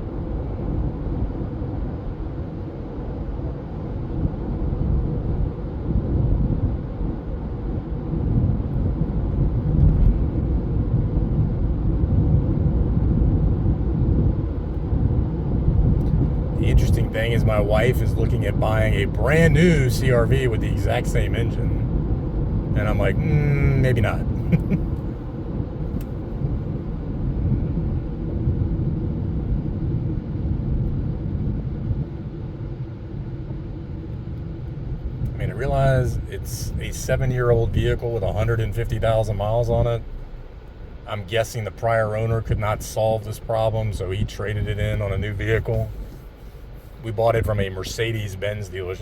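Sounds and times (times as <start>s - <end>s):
road and engine rumble in car: 0.0s - 49.0s.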